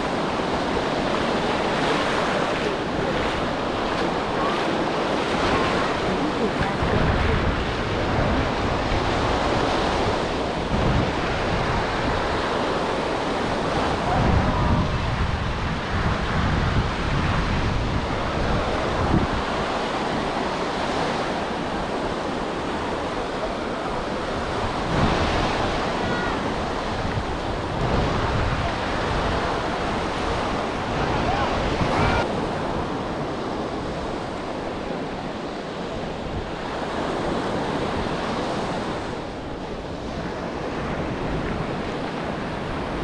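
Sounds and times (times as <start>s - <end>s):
surf washing onto beach: 0.0s - 43.0s
wind gusting on microphone: 0.0s - 43.0s.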